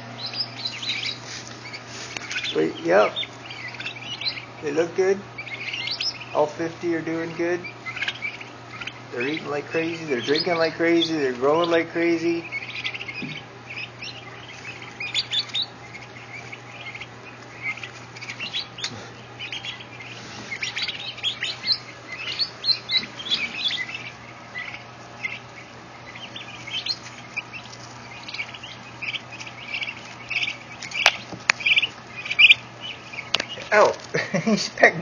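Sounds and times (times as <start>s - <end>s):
steady low hum: 0.0s - 35.0s
turkey poults peeping: 0.0s - 35.0s.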